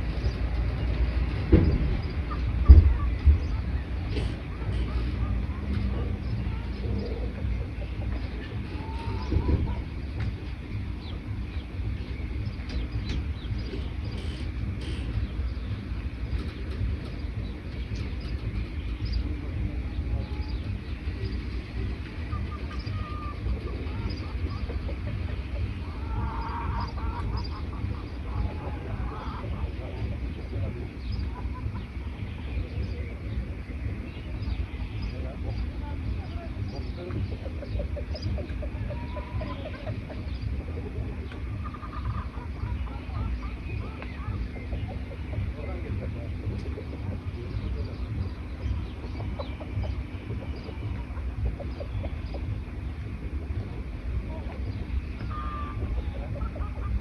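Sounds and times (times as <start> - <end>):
birds chirping: 0.0 - 57.0
steady low rumble: 0.0 - 57.0.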